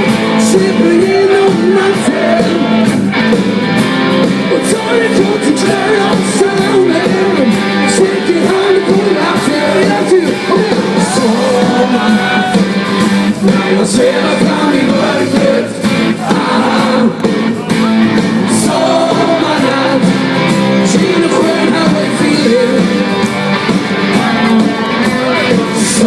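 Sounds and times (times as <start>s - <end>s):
person singing: 0.0s - 2.9s, 4.5s - 12.7s, 13.3s - 23.2s, 24.1s - 26.0s
live band playing pop song: 0.0s - 26.0s.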